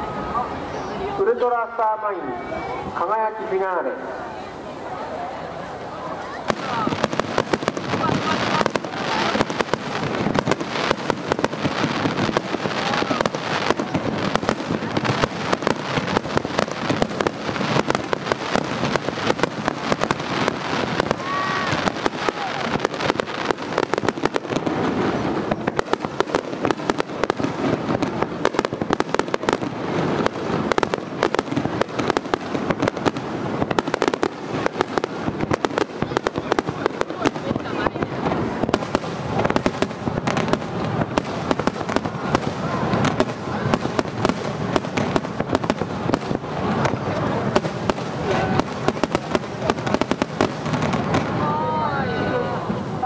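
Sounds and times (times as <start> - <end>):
fireworks bursting and crackling: 0.0 - 53.0.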